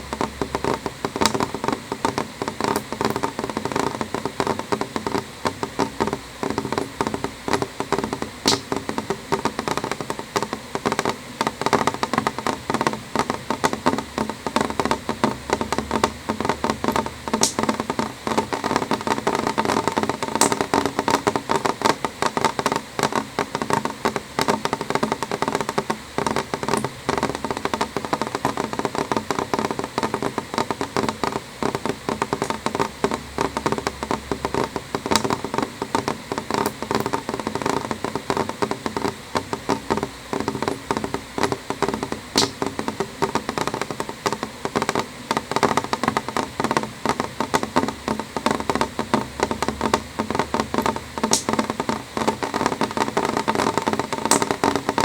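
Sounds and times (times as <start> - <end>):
rain tapping on window: 0.0 - 55.0.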